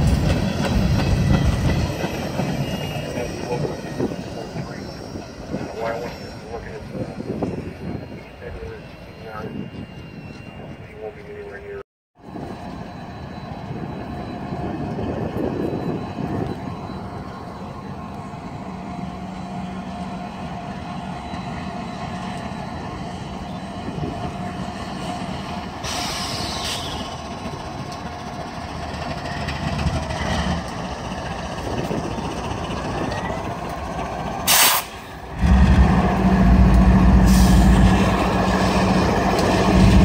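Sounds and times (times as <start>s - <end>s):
train rumbling past on rails: 0.0s - 40.0s.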